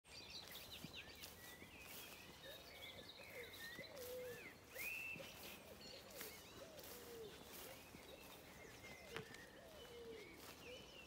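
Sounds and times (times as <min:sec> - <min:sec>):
birds singing: 0:00.1 - 0:11.0.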